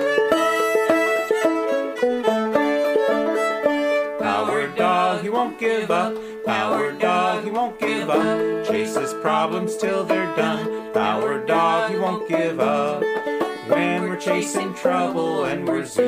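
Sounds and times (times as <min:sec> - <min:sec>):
instrumental theme music: 0:00.0 - 0:16.0.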